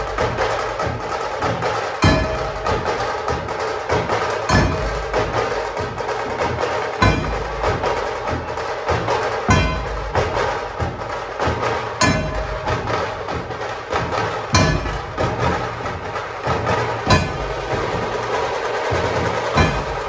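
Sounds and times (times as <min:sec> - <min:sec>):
fast tasha drum strokes: 0:00.0 - 0:20.0
heavy dhol beats: 0:00.0 - 0:20.0.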